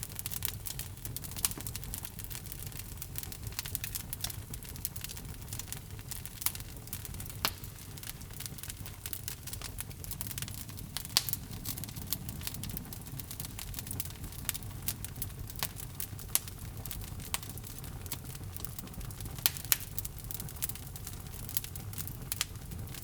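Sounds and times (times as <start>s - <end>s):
log fire crackling and popping: 0.0s - 23.0s.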